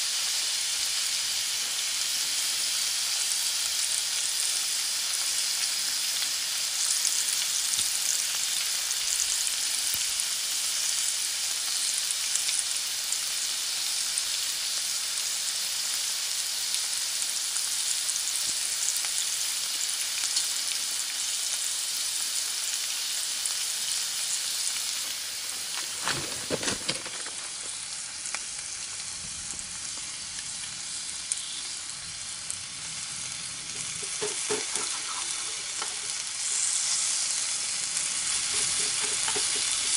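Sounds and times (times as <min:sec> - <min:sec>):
meat sizzling on a grill: 0:00.0 - 0:39.9.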